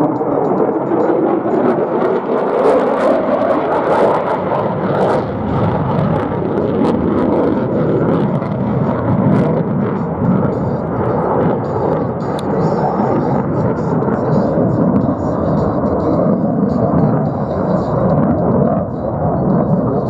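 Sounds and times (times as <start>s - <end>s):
jet engine roar in flight: 0.0s - 20.0s.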